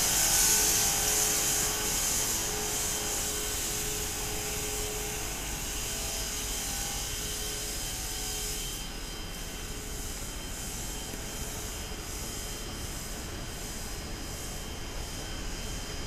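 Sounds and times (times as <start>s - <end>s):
cooling tower fan and water: 0.0s - 16.0s.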